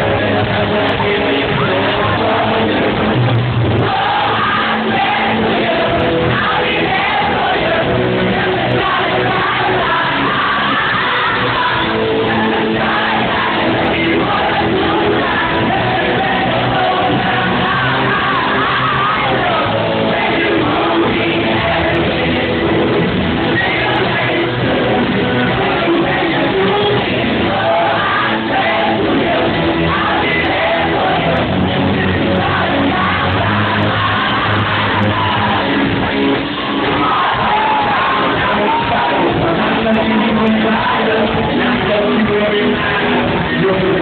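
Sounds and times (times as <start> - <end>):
crowd yelling: 0.0 - 44.0
lead singer: 0.0 - 44.0
live pop-rock band: 0.0 - 44.0.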